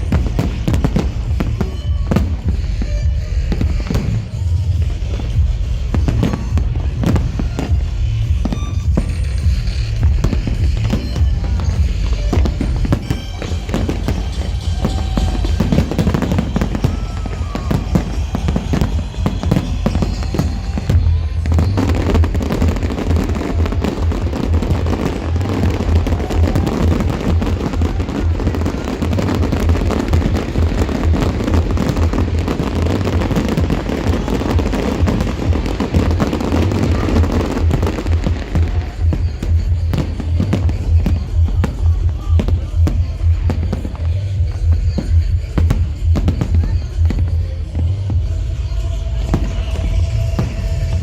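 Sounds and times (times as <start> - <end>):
electronic dance music: 0.0 - 51.0
fireworks bursting and crackling: 0.0 - 51.0.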